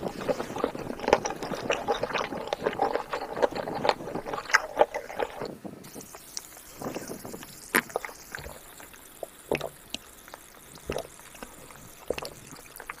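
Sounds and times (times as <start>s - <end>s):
person gulping a drink: 0.0s - 13.0s.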